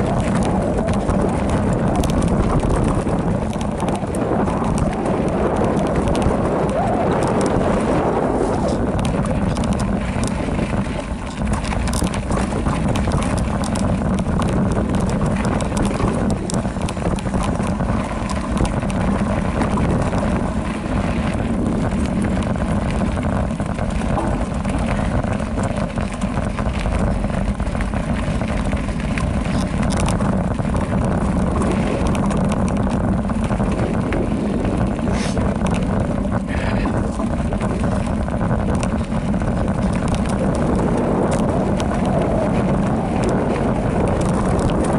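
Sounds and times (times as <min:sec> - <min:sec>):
bike rattling and knocking: 0:00.0 - 0:44.9
bike tyres rumbling on dirt: 0:00.0 - 0:44.9
wind buffeting microphone: 0:00.0 - 0:44.9.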